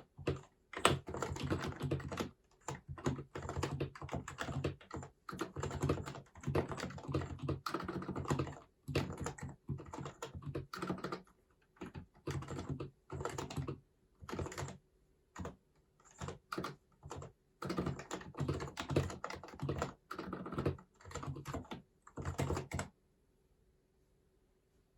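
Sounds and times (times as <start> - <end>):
quiet keyboard typing: 0.0 - 23.0.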